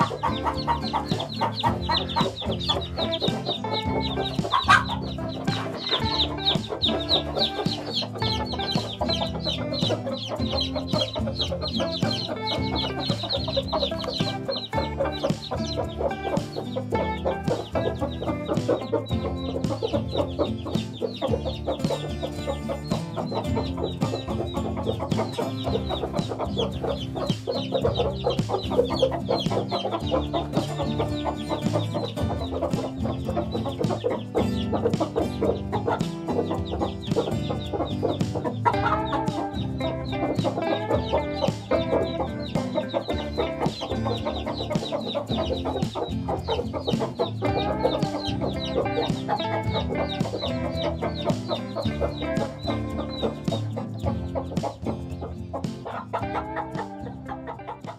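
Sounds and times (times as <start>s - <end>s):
background music: 0.0s - 57.9s
chicks cheeping: 0.0s - 57.9s
hens clucking: 0.0s - 57.9s.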